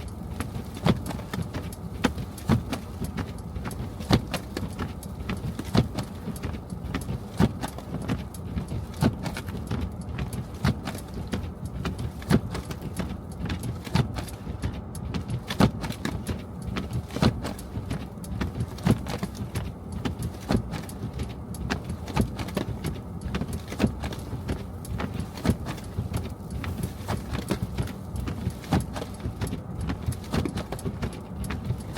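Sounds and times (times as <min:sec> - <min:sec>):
car road rumble: 0:00.0 - 0:31.9
small clicks and knocks: 0:00.0 - 0:31.9.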